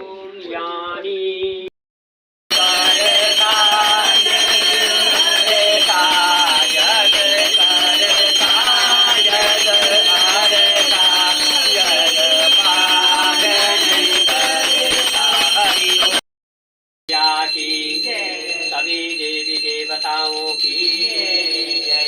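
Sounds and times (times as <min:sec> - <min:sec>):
steady high ringing tone: 0:02.5 - 0:16.2, 0:17.1 - 0:22.0.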